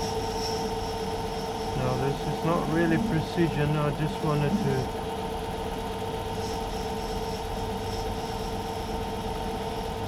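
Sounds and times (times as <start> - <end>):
metal lathe running: 0.0 - 9.8.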